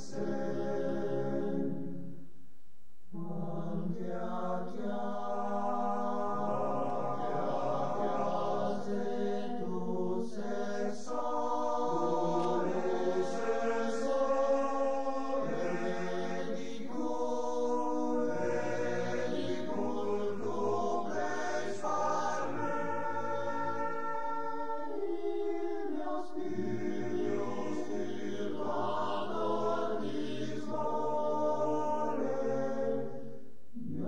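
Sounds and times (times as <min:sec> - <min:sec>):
male choir singing a cappella: 0:00.0 - 0:02.0, 0:03.2 - 0:34.0.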